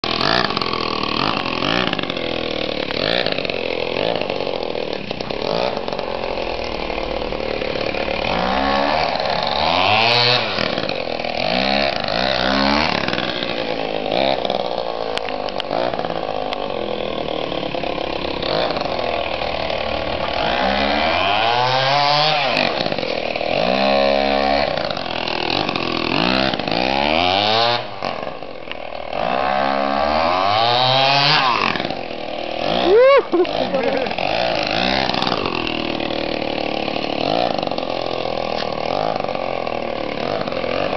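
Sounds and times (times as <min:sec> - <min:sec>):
rc car engine revving: 0:00.0 - 0:40.9.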